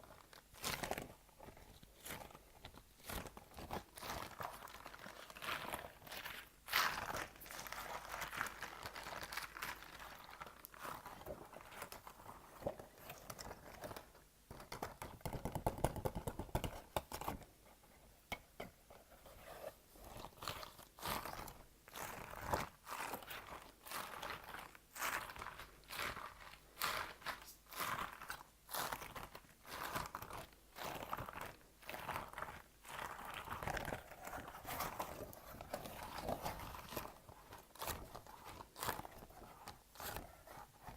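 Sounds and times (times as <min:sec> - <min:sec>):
object being crinkled and crunched: 0:00.0 - 0:17.5, 0:19.3 - 0:40.9.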